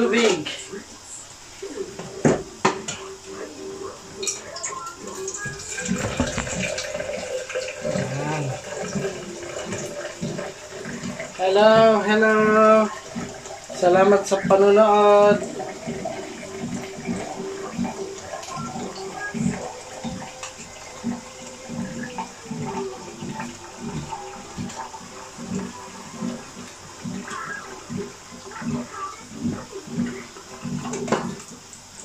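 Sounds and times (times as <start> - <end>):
pot of broth bubbling: 5.3 - 32.0.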